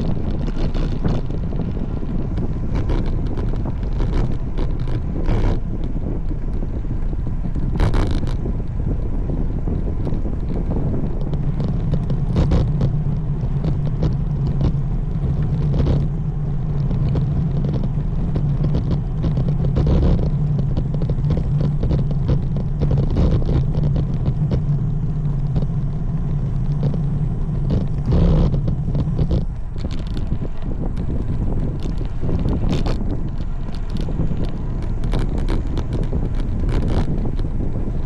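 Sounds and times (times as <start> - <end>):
steady low rumble: 0.0 - 38.0
wind rushing over microphone: 0.0 - 38.0.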